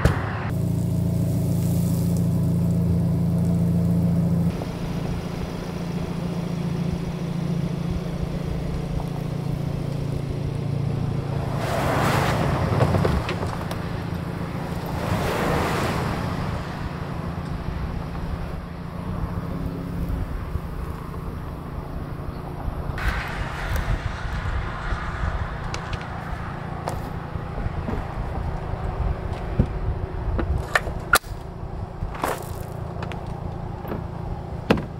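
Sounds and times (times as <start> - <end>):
truck engine humming: 0.0 - 34.9
vehicles driving past: 0.0 - 34.9.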